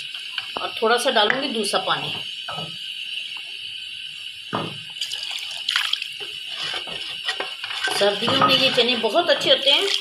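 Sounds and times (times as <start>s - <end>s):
curry bubbling and sizzling: 0.0s - 10.0s.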